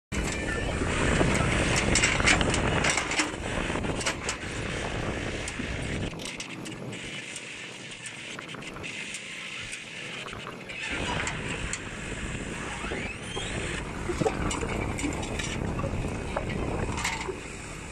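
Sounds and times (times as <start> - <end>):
diesel tractor engines rumbling: 0.2 - 7.4, 8.0 - 17.9.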